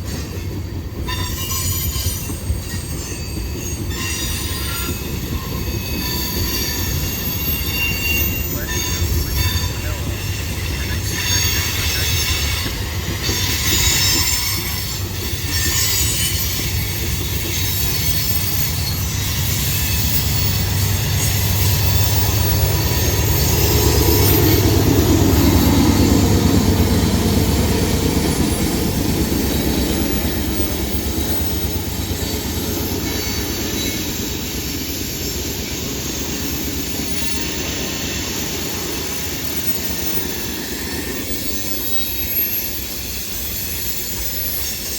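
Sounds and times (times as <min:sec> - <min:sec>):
freight train rumbling: 0:00.0 - 0:44.9
steel wheels squealing: 0:00.0 - 0:44.9.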